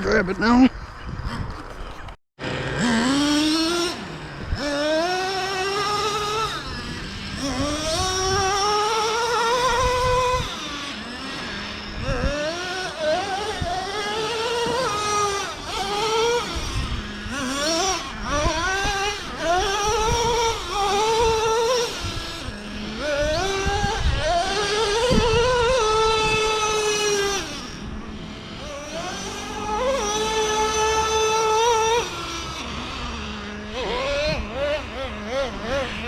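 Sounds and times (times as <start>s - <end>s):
nitro engine revving: 0.0s - 36.0s.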